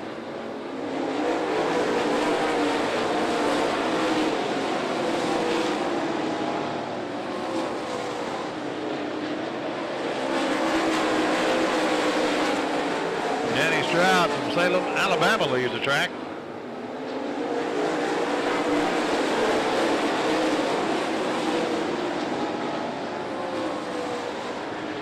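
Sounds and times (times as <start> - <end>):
race car engines roaring: 0.4 - 25.0.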